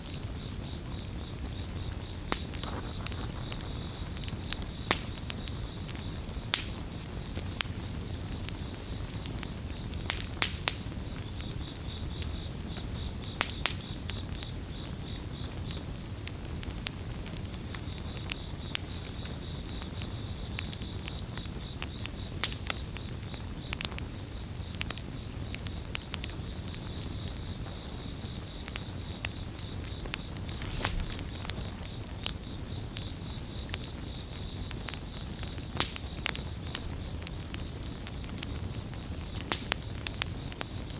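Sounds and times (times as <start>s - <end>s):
campfire crackling and popping: 0.0s - 40.9s
cricket chirping: 0.0s - 40.9s.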